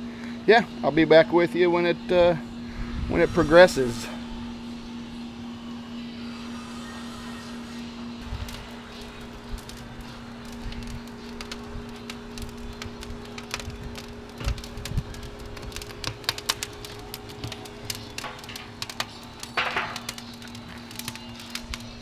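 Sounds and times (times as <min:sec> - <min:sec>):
fire hissing: 0:00.0 - 0:22.0
steady low hum: 0:00.0 - 0:22.0
wood fire crackling: 0:00.1 - 0:22.0.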